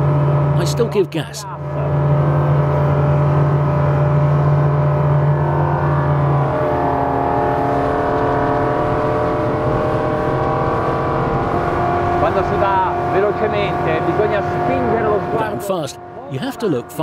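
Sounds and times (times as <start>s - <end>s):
outboard engine running hard: 0.0s - 17.0s.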